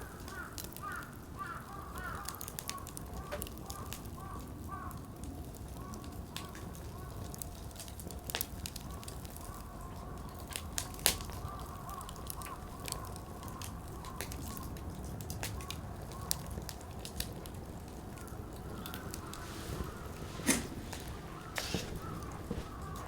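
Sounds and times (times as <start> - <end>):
firewood popping: 0.0 - 23.0
low fire rumble: 0.0 - 23.0.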